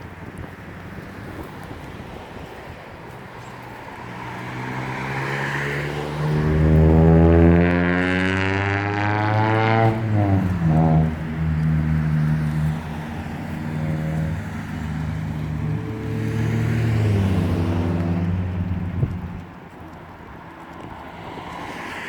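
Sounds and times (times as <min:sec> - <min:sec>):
vehicle engines passing: 0:00.0 - 0:22.0.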